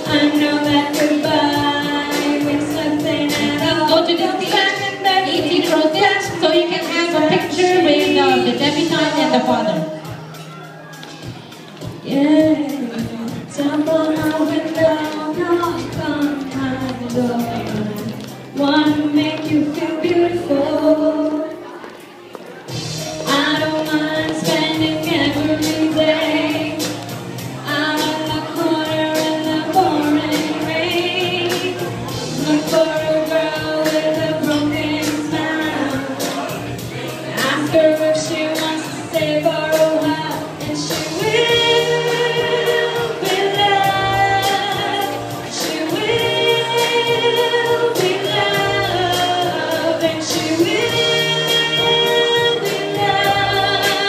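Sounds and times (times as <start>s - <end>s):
woman singing: 0.0s - 10.1s, 11.8s - 21.9s, 23.2s - 54.0s
backing music: 0.0s - 54.0s.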